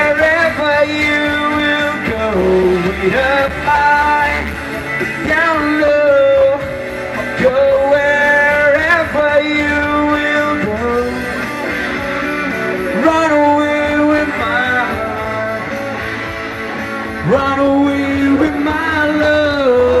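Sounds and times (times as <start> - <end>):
instrumental accompaniment with guitar: 0.0 - 20.0
man singing into a microphone: 0.0 - 20.0.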